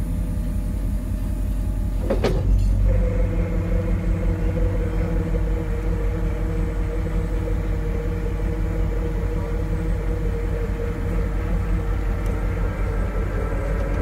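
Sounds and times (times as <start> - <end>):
steady higher hum: 0.0 - 14.0
truck engine running: 0.0 - 14.0.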